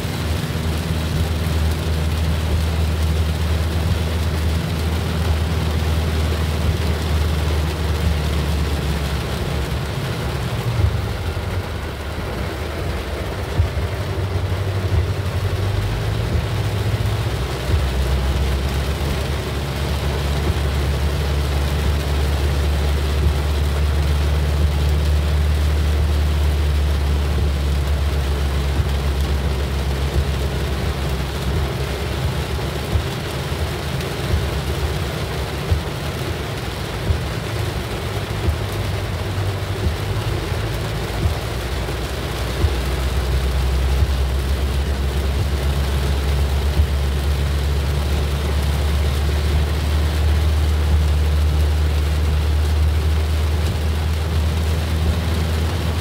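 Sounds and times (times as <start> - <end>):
car engine and tyres drone: 0.0 - 56.0
rain hitting car roof: 0.0 - 56.0.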